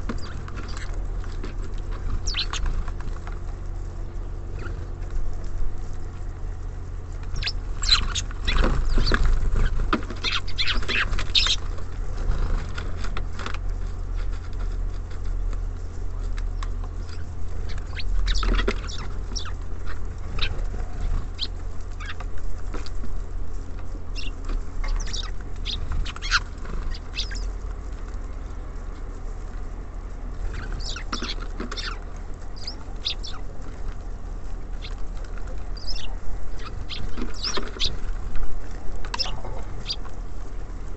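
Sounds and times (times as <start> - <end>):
birds pecking at feeder: 0.0 - 40.9
steady low hum: 0.0 - 40.9.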